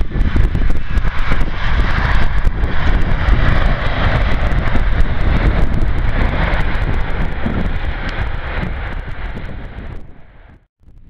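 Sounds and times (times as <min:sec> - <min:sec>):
jet engines at high power: 0:00.0 - 0:10.7
wind on microphone: 0:00.0 - 0:11.0.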